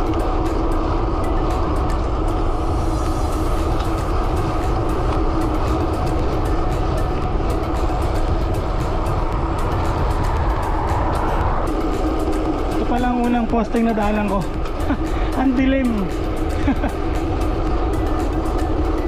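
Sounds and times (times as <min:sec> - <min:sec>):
bike tyre hum on asphalt: 0:00.0 - 0:19.0
wind buffeting microphone: 0:00.0 - 0:19.0.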